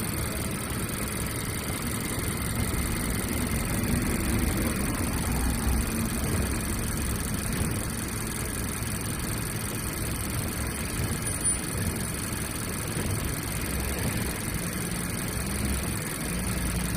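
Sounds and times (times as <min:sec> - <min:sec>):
car engine idling: 0:00.0 - 0:16.9
rapid engine knocking: 0:00.0 - 0:16.9.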